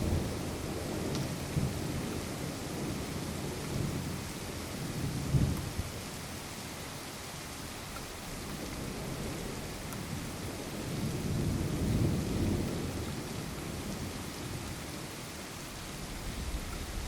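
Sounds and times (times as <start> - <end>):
thunder rumbling: 0.0 - 6.1, 8.4 - 17.0
steady rain: 0.0 - 17.0.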